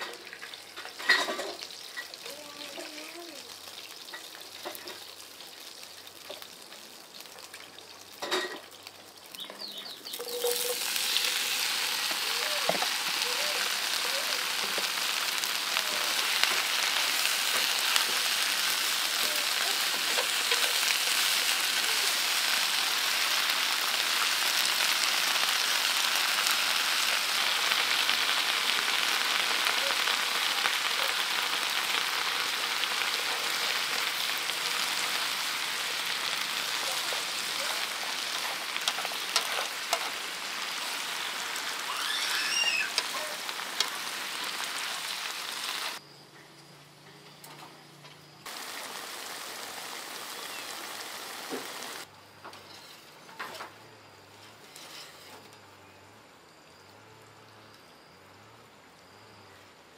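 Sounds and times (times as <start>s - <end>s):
food sizzling in hot oil: 0.0s - 46.0s, 48.4s - 52.1s.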